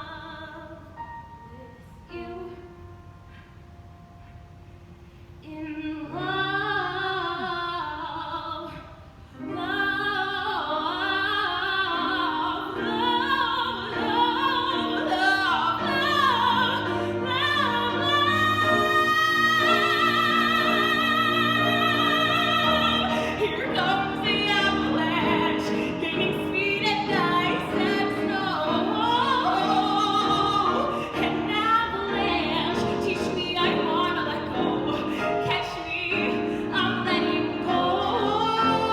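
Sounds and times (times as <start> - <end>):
woman singing with vibrato: 0.0 - 2.9, 5.4 - 38.9.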